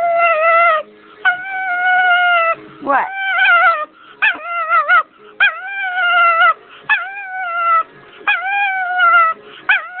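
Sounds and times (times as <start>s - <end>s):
small dog whining: 0.0s - 10.0s.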